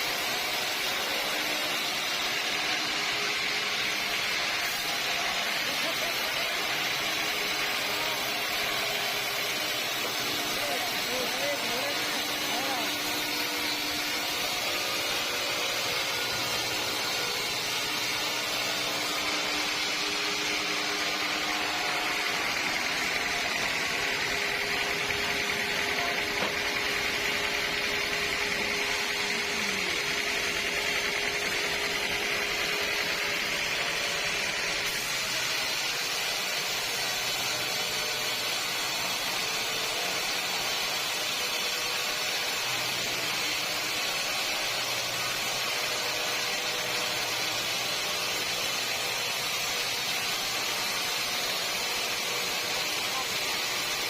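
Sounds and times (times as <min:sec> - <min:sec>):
sawmill saw high whine: 0:00.0 - 0:54.0.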